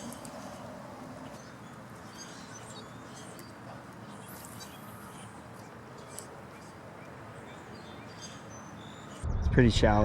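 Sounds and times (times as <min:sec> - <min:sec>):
outdoor background hiss: 0:00.0 - 0:09.2
small birds chirping: 0:00.0 - 0:09.2.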